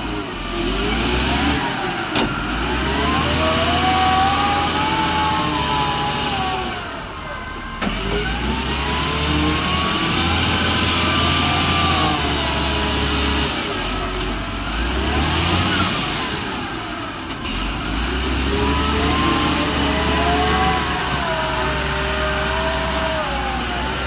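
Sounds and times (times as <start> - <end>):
excavator diesel engine: 0.0 - 24.0.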